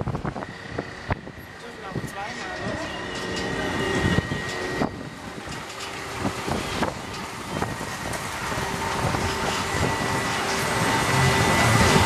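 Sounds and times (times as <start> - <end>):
ferris wheel machinery humming: 0.0 - 12.0
wind noise: 0.0 - 12.0.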